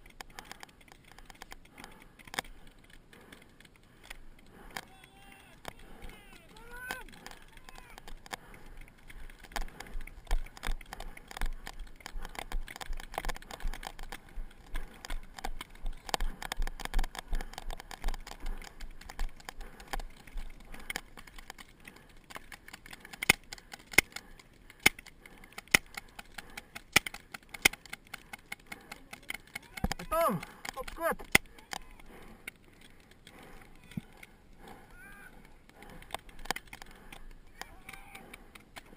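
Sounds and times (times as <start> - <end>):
rattling gear: 0.0 - 38.9.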